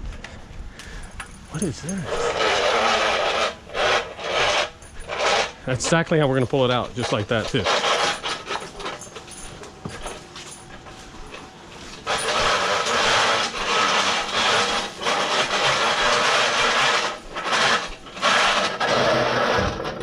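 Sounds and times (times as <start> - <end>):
heavy item dragged over hard surface: 1.3 - 20.0.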